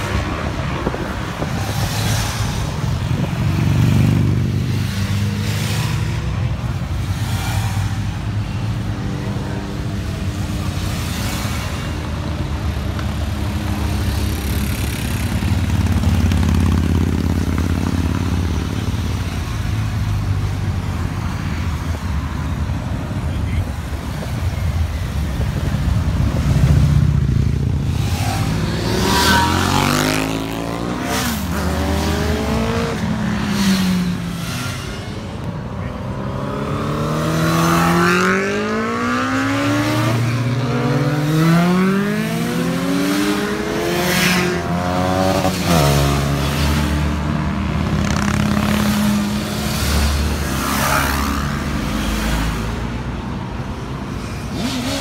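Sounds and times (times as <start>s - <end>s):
motorcycles riding past: 0.0s - 22.5s, 23.4s - 53.1s.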